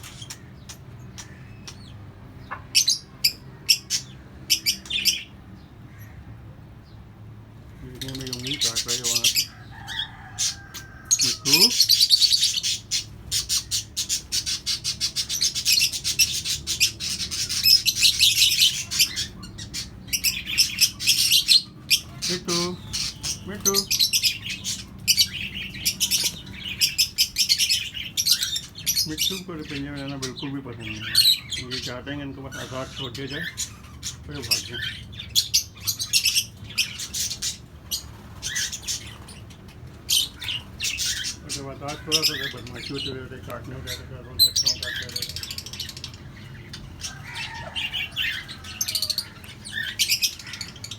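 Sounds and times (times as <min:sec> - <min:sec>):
small parrots chirping: 0:00.0 - 0:06.2, 0:07.8 - 0:50.9.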